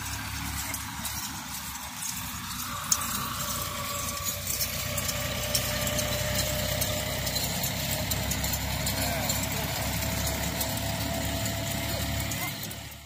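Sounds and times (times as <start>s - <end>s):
engine running at low speed: 0.0s - 13.0s
goat hooves clicking on dirt: 0.0s - 13.0s.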